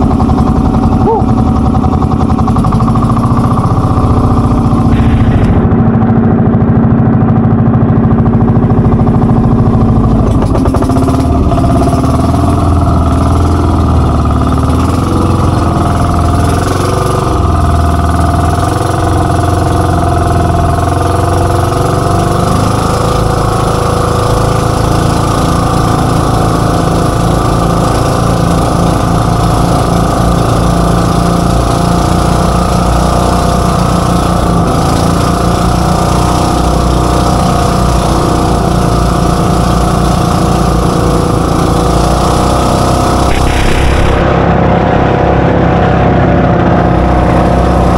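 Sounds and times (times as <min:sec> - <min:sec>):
boat engines running: 0:00.0 - 0:47.9.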